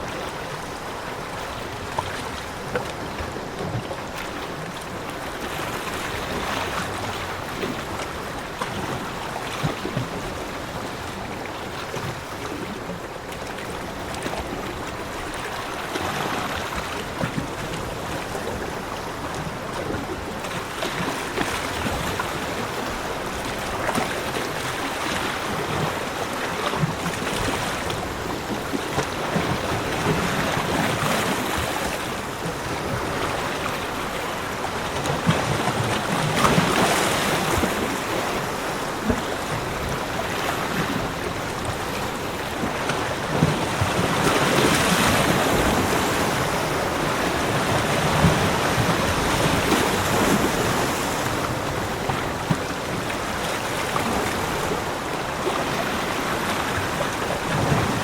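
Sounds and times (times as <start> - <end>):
ocean waves washing on beach: 0.0 - 58.0.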